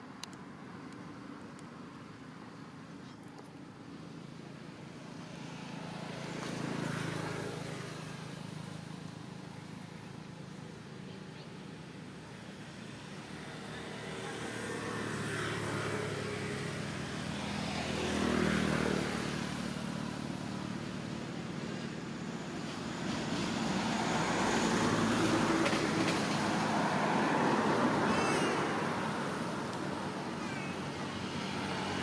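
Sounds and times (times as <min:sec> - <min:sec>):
motor engine passing by: 0:05.1 - 0:32.0.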